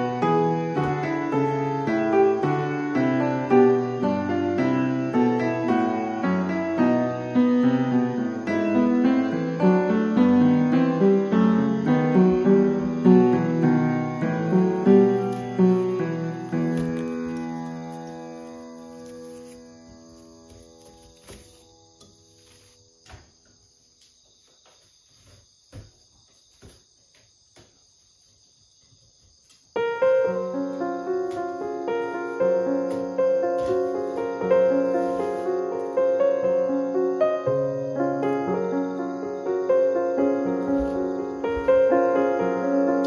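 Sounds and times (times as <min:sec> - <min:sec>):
piano music: 0:00.0 - 0:22.6, 0:29.8 - 0:43.0
insect chirring: 0:00.0 - 0:43.0.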